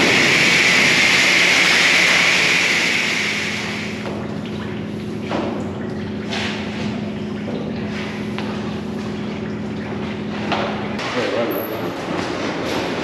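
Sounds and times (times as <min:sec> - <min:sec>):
pump hum: 0:00.0 - 0:13.0
soapy water dripping: 0:00.0 - 0:13.0.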